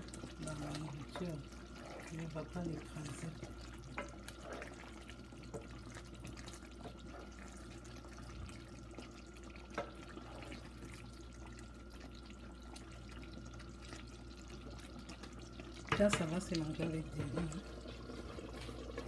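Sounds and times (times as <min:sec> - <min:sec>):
faint steady hum: 0:00.0 - 0:19.0
spatula stirring sauce sloshing: 0:00.0 - 0:19.0.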